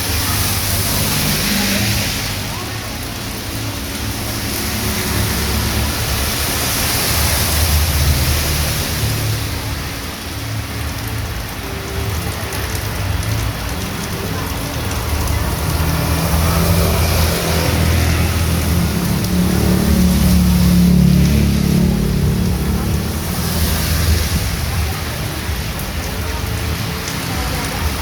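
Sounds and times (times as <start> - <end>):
heavy rain on a street: 0.0 - 28.0.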